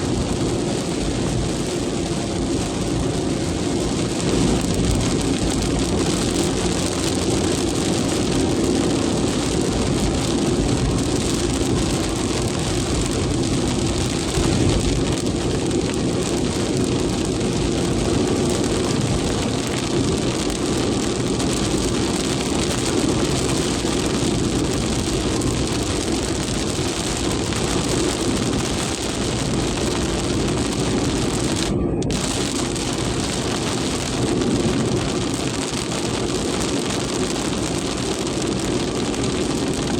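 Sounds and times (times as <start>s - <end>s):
heavy rain pouring: 0.0s - 39.9s
low rumble: 0.0s - 39.9s.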